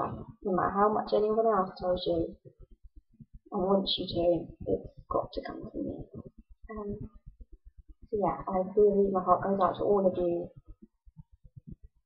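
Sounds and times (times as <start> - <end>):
faint low pulses: 0.0 - 12.0.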